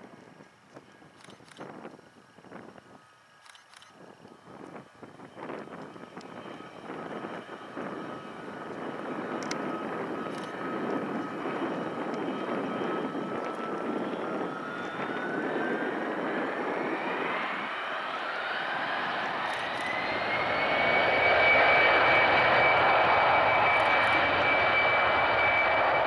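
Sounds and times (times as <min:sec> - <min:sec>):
jet engines running: 0:00.0 - 0:26.0
engine whine rising: 0:04.3 - 0:26.0.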